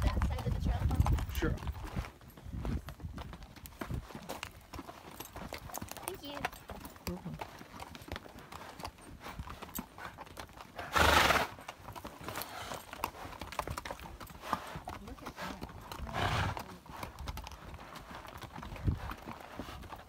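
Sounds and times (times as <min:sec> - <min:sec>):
mule hooves clip-clopping on trail: 0:00.0 - 0:20.0.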